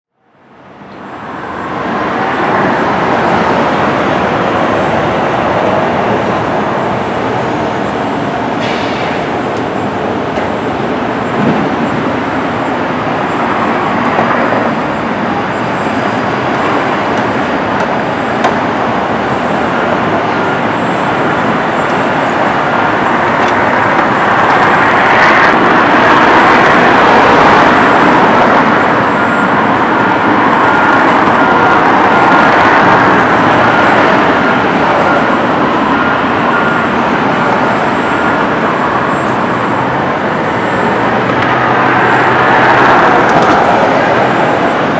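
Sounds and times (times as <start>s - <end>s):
road traffic noise: 0.1s - 44.9s.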